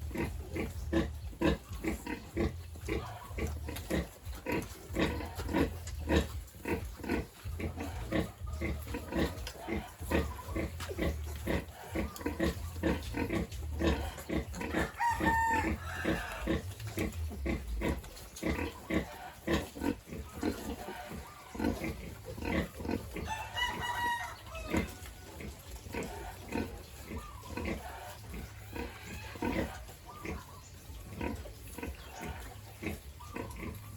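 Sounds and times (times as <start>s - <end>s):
pigs grunting: 0.0s - 33.9s.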